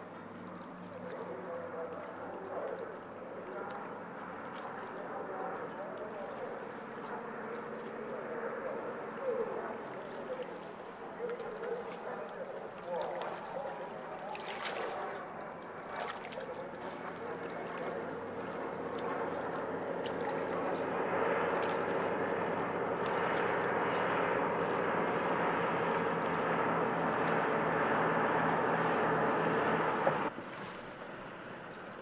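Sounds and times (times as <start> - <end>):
aircraft engines droning: 0.0 - 32.0.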